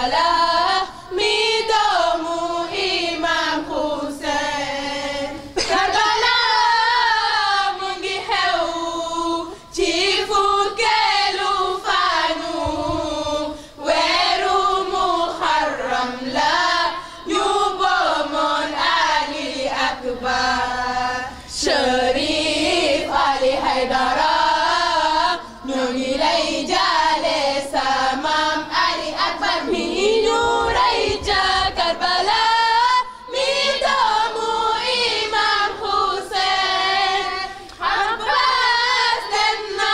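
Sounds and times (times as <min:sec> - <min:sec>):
women and girls chanting lament: 0:00.0 - 0:39.9.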